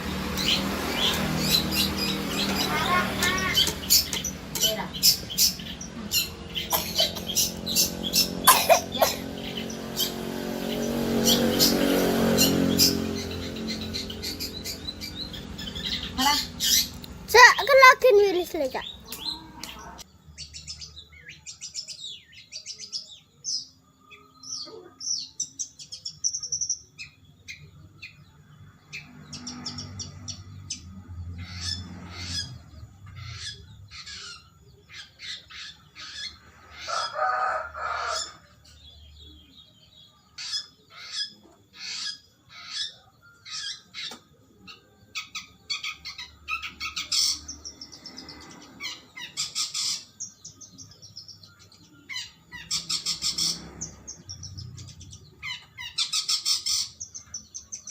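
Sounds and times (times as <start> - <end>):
shrike chirping and trilling: 0.0 - 57.9.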